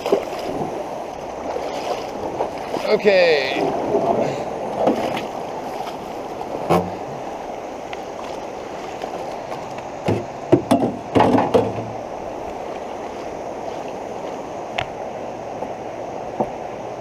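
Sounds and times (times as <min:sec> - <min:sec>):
canoe hull scraping over rocks: 0:00.0 - 0:14.4
creek water rushing: 0:00.0 - 0:17.0.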